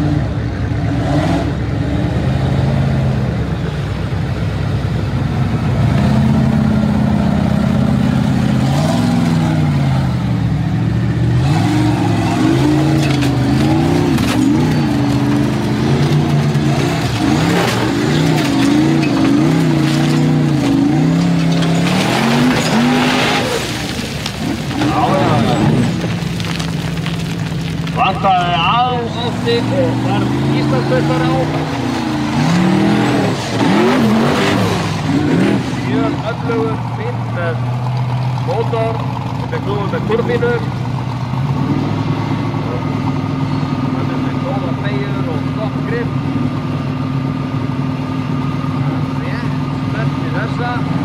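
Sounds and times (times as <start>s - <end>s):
buggy engine revving hard: 0.0s - 3.8s, 5.4s - 51.0s.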